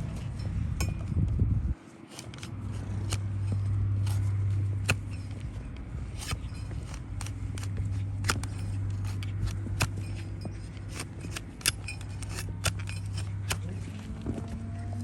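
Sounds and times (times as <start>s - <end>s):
steady low hum: 0.0s - 15.0s
hoof trimming clicks and snips: 2.0s - 14.9s
hoof snapping: 2.1s - 15.0s.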